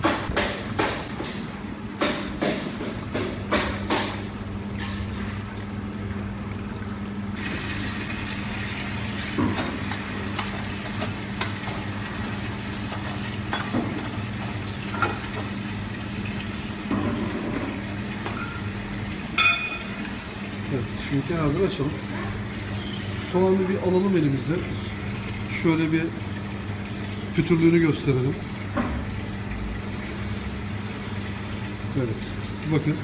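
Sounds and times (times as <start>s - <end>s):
low steady hum: 3.1s - 33.0s.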